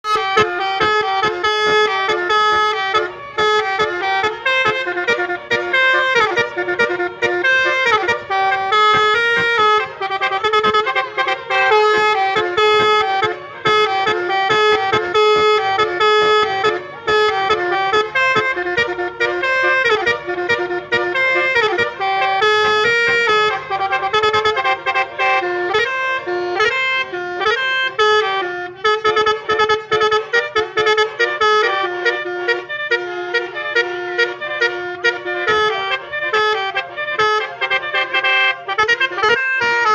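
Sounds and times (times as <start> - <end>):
multi-tone horn playing a tune: 0.0 - 39.9.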